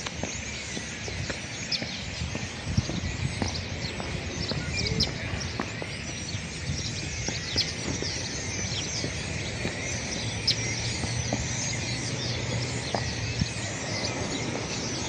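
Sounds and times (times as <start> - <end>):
flock of small birds chirping: 0.0 - 15.0.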